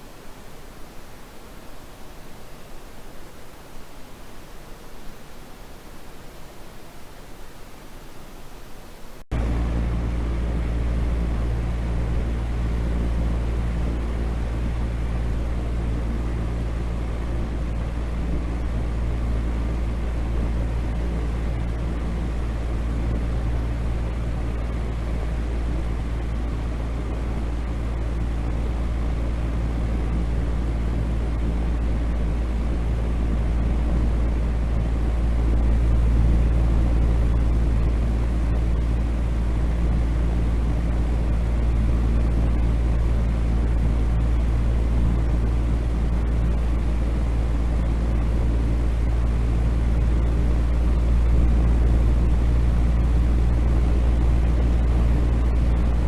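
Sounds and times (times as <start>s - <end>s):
low rumbling drone with hiss: 0.0s - 56.0s.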